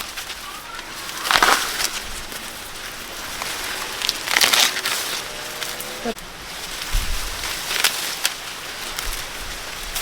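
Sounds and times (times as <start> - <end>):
dry corn plants rustling: 0.0 - 10.0.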